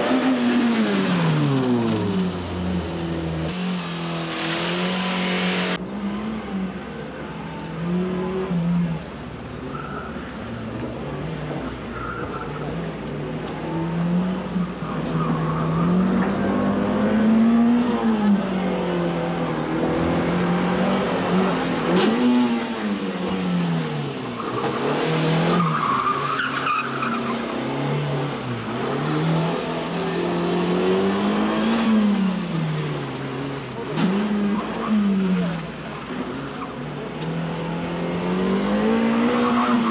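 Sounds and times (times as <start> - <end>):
car engine revving: 0.0 - 6.8, 12.6 - 39.9.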